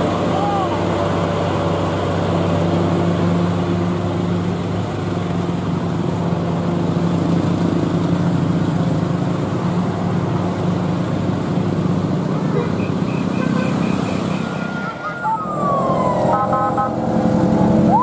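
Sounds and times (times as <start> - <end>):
diesel truck engine droning: 0.0 - 18.0
traffic passing: 0.0 - 18.0.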